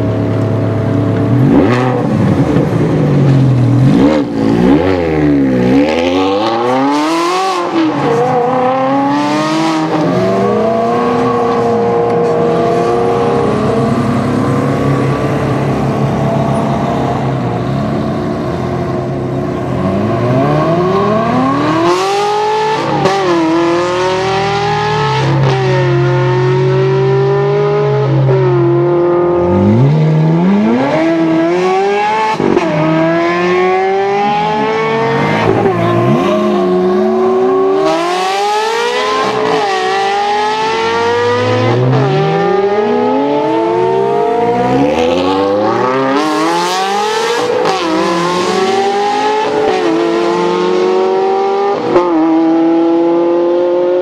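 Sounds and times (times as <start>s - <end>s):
sports cars accelerating hard: 0.0s - 54.0s.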